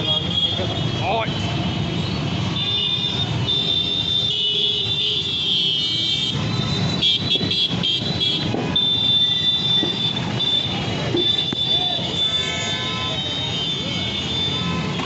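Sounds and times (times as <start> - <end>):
scooter engine and road rumble: 0.0 - 15.0
vehicle horns honking: 0.0 - 15.0.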